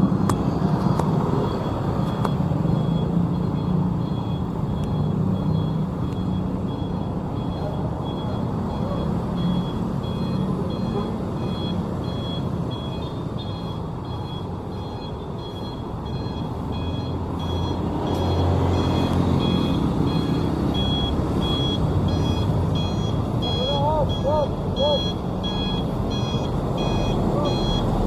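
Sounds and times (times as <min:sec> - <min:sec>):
truck engine running: 0:00.0 - 0:28.0
truck reversing alarm beeping: 0:00.0 - 0:28.0.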